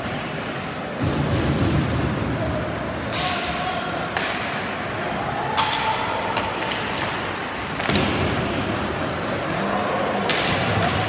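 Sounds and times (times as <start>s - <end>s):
arena crowd noise: 0.0s - 11.0s
hockey sticks and puck clacking: 0.0s - 11.0s.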